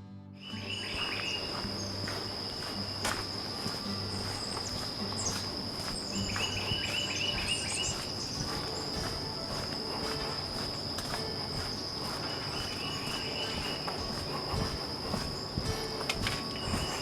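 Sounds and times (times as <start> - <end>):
high bird chirps: 0.4 - 10.7, 11.5 - 17.0
high-pitched insect trill: 0.4 - 17.0.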